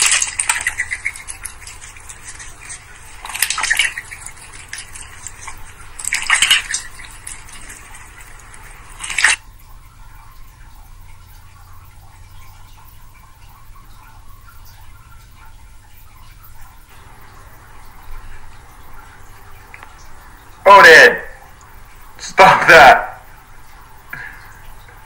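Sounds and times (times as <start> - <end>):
duck dabbling in water bowl: 0.0 - 22.2
water splashing: 0.0 - 25.0.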